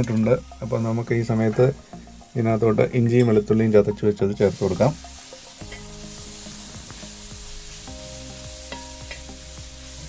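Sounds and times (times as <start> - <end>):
onions sizzling in oil: 0.0 - 10.0
soft background music: 0.0 - 10.0.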